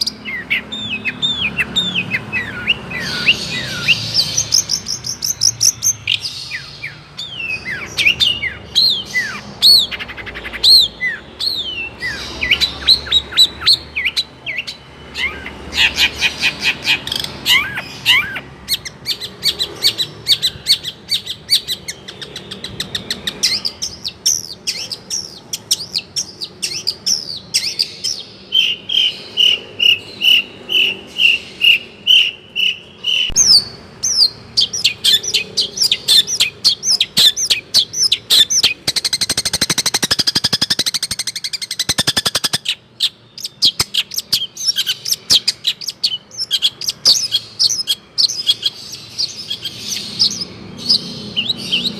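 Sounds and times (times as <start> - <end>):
bird singing varied song: 0.0 - 51.9
rapid bird twittering: 0.0 - 51.9
repeated steady bird notes: 0.0 - 51.9.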